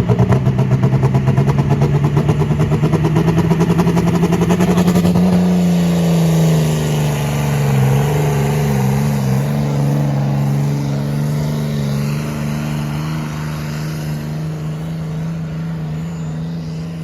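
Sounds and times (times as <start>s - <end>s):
engine running hard under load: 0.0s - 17.0s.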